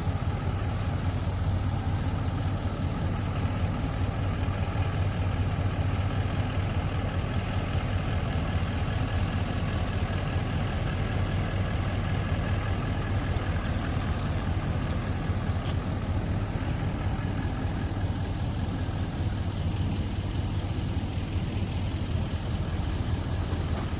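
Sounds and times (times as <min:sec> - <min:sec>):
engine running at low speed: 0:00.0 - 0:23.9.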